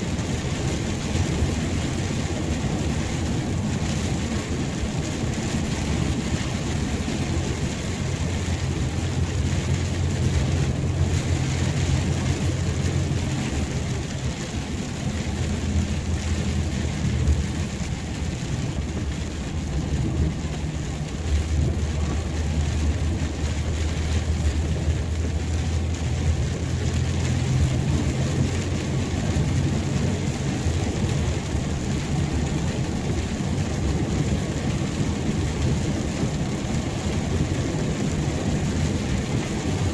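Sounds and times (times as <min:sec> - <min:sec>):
low rumble: 0:00.0 - 0:39.9
rain falling: 0:00.0 - 0:39.9.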